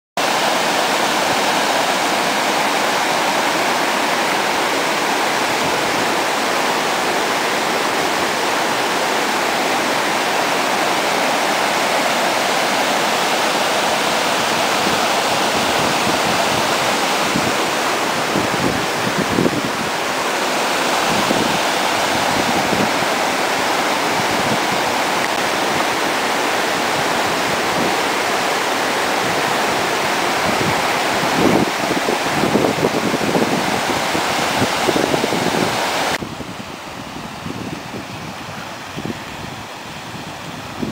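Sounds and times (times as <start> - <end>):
floodwater rushing: 0.2 - 40.9.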